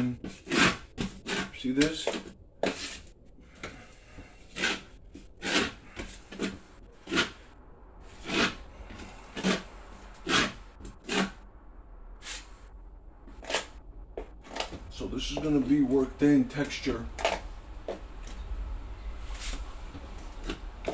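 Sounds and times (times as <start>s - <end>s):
tool scraping compound on wall: 0.0s - 11.4s, 13.2s - 18.4s, 19.3s - 20.9s.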